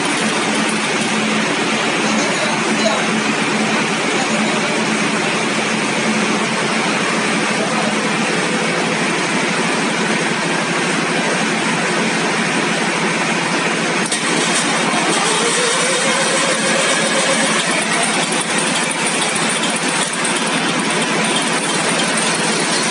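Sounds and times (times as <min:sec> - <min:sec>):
engine running loud: 0:00.0 - 0:22.9.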